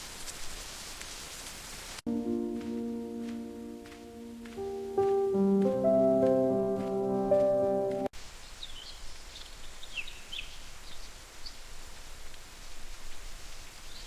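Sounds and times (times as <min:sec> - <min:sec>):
outdoor ambience hiss: 0:00.0 - 0:14.0.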